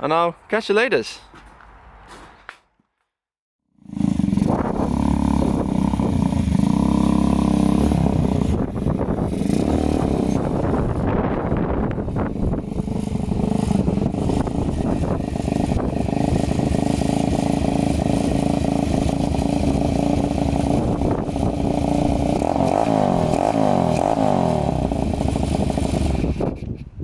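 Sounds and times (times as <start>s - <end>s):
small petrol engine running: 3.8s - 26.6s.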